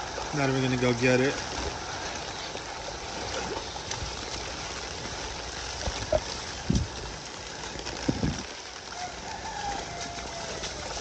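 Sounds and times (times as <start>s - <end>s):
heavy rain falling: 0.0s - 11.0s
water running across ground: 0.0s - 11.0s.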